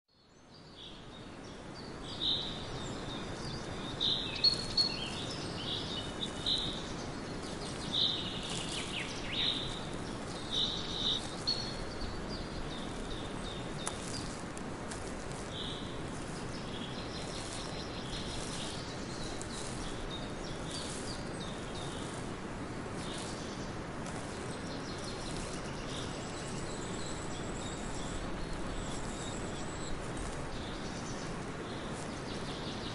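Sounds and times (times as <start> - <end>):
outdoor background hiss: 0.2 - 32.9
birds chirping: 0.3 - 32.9.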